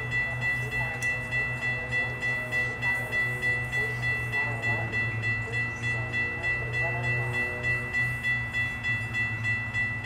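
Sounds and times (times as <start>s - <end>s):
crossing warning bell ringing: 0.0s - 10.0s
low train rumble: 0.0s - 10.0s.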